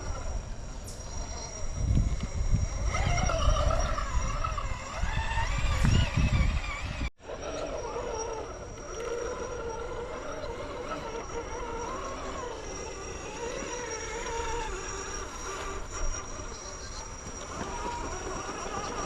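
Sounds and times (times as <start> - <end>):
electric motor and gears whining: 0.0 - 19.0
steady high-pitched whine: 0.0 - 19.0.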